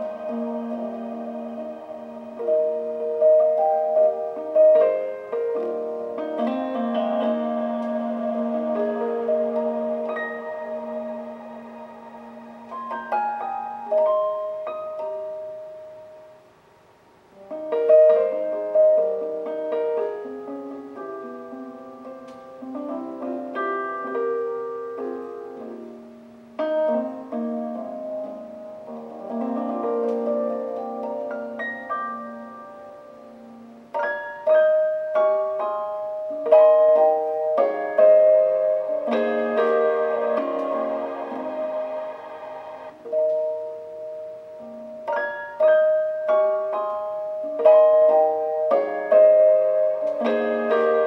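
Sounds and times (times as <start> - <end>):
gentle piano music: 0.0 - 51.0.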